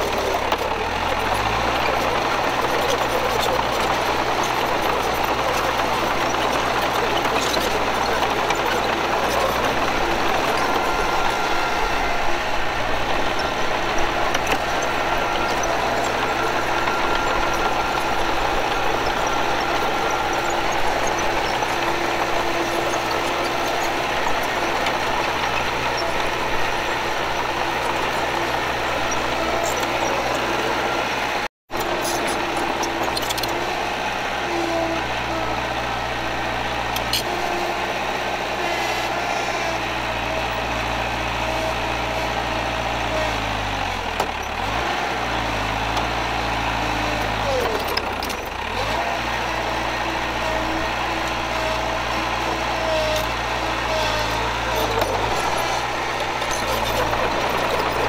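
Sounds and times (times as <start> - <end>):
heavy machinery diesel engine running: 0.0 - 58.0.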